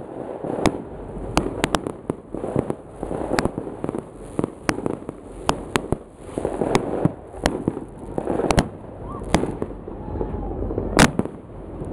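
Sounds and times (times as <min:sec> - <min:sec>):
distant fireworks rumble and crackle: 0:00.0 - 0:11.9
fireworks bangs: 0:00.0 - 0:11.9.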